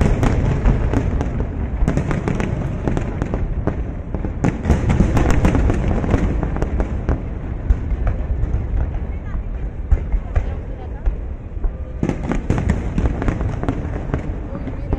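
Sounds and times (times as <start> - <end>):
fireworks bursts and crackles: 0.0 - 14.9.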